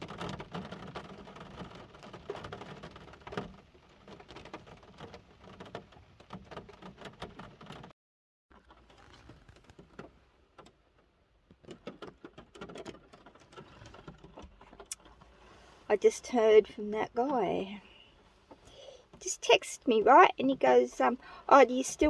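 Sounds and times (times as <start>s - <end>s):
rain patter: 0.0s - 7.9s, 8.5s - 22.0s.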